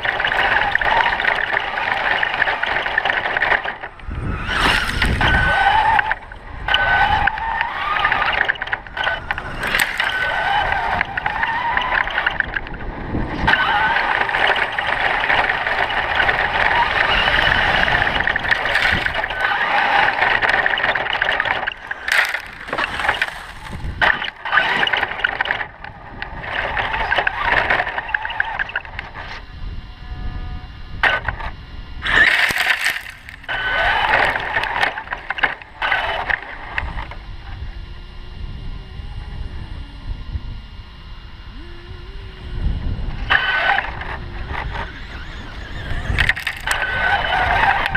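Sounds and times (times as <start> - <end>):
rc truck electric motor whine: 0.0 - 47.9.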